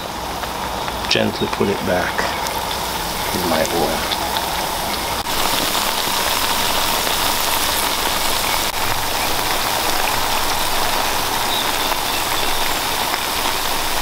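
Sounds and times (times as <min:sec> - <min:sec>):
frying oil sizzling and crackling: 0:00.0 - 0:14.0.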